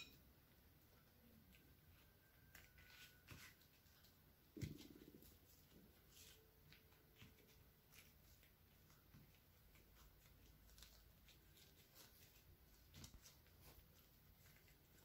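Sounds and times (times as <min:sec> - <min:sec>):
rustles and light clicks: 0:00.8 - 0:15.0.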